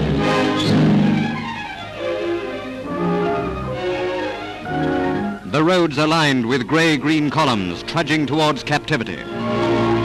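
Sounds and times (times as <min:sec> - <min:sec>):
orchestral music: 0:00.0 - 0:10.0.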